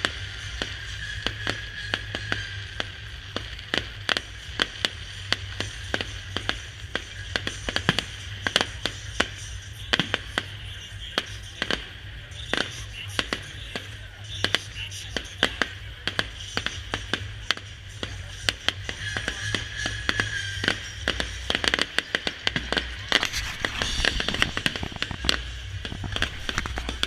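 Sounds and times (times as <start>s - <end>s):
fireworks bangs and cracks: 0.0s - 27.0s
music playing: 0.0s - 27.0s.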